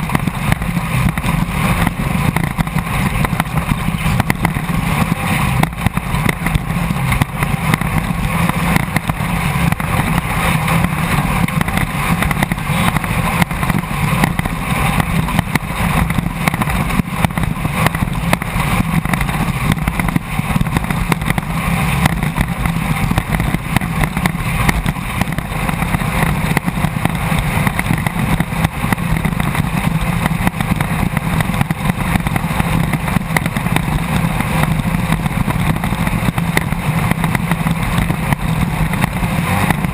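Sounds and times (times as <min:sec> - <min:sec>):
race car engine running hard: 0:00.0 - 0:39.9
rushing noise: 0:00.0 - 0:39.9.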